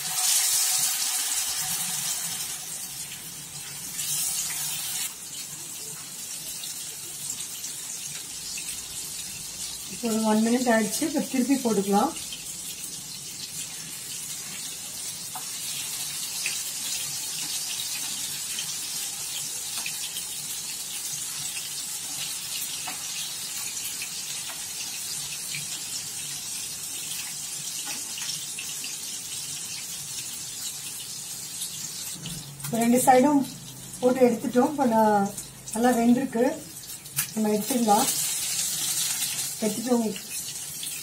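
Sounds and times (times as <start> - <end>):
fish sizzling in hot oil: 0.0 - 41.0.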